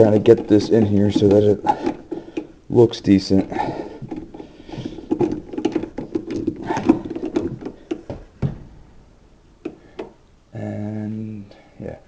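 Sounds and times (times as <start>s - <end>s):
outlet wires clicking and scraping: 0.0s - 10.5s.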